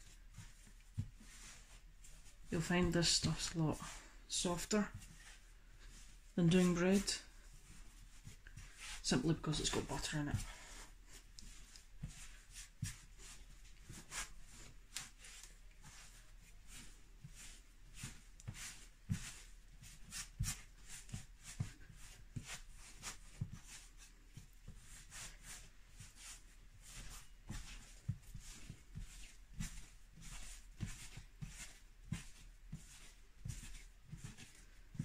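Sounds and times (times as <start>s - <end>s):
hands kneading dough: 0.0s - 35.0s.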